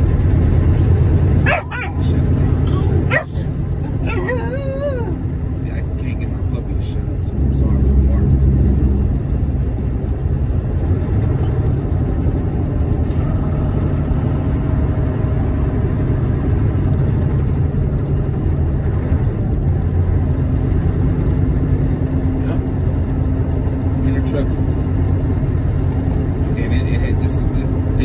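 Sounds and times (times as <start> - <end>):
road and tyre noise: 0.0 - 28.0
truck diesel engine droning: 0.0 - 28.0.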